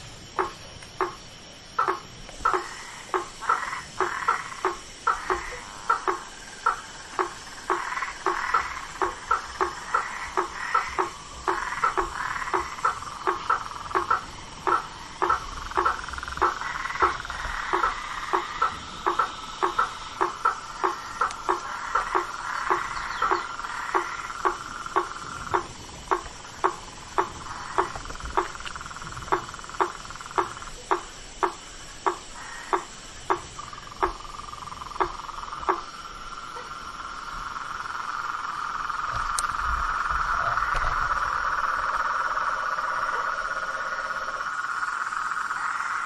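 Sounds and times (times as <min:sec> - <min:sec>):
animal chorus: 0:00.0 - 0:46.0
frog calling: 0:00.0 - 0:46.0.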